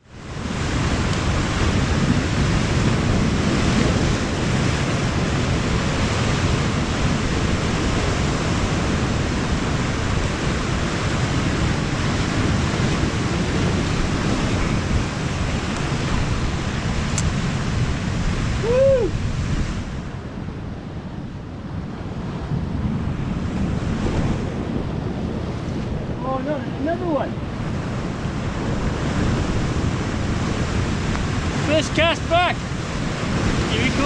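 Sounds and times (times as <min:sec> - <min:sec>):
sea surf on rocky shore: 0:00.0 - 0:34.0
wind buffeting microphone: 0:00.0 - 0:34.0.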